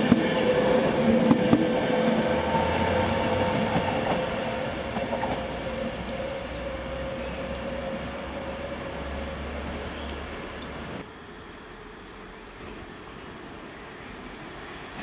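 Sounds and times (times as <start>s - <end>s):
electric train whine: 0.0s - 15.0s
low train rumble: 0.0s - 15.0s.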